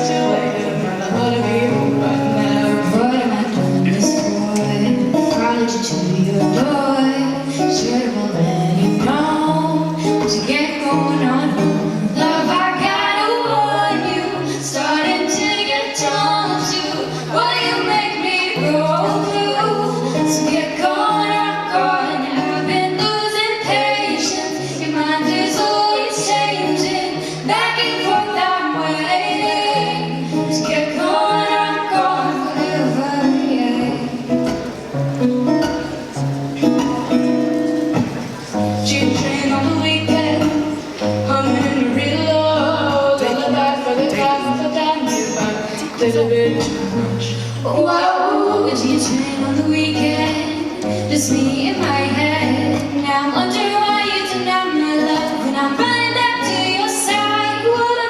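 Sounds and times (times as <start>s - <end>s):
women singing: 0.0s - 34.6s, 38.7s - 58.0s.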